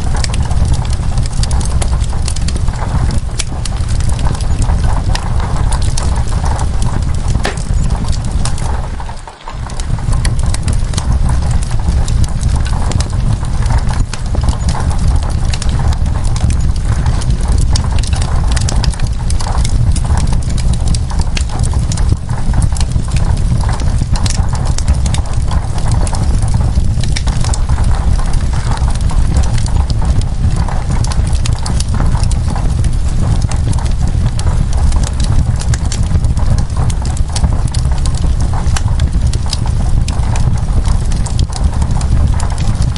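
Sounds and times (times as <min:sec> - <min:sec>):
log fire crackling: 0:00.0 - 0:42.9.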